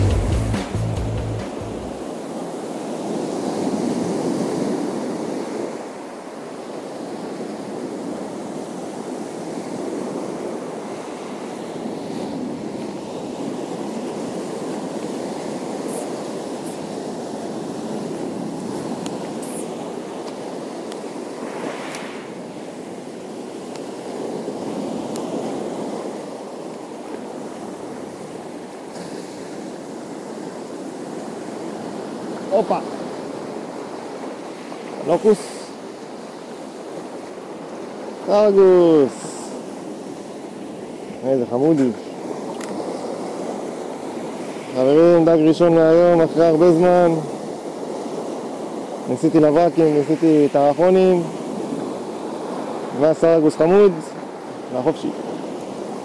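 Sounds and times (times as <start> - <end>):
sea surf washing on shore: 0.0 - 56.0
wind: 0.0 - 56.0.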